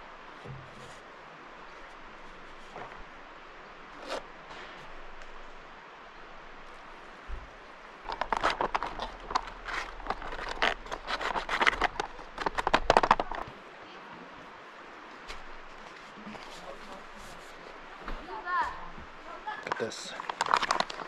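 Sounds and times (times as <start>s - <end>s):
rustling and crackling: 0.0s - 13.6s, 15.0s - 21.0s.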